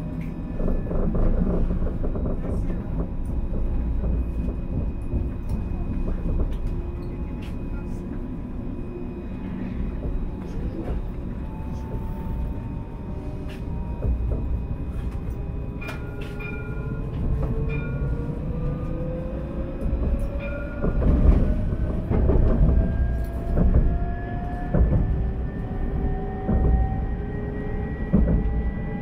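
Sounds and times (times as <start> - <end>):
tram running rumble: 0.0 - 29.0.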